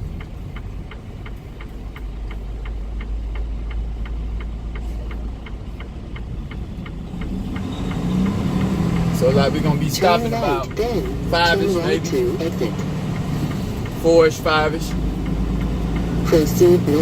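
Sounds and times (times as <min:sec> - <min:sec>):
truck diesel engine rumble: 0:00.0 - 0:17.0
turn signal clicking: 0:00.0 - 0:17.0.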